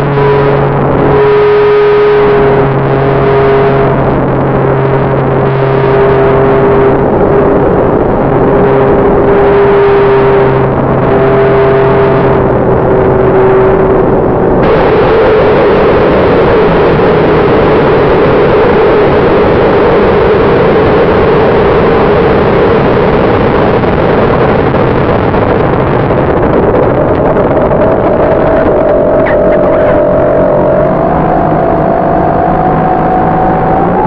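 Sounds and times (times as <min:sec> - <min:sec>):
wind rushing over airframe: 0:00.0 - 0:34.0.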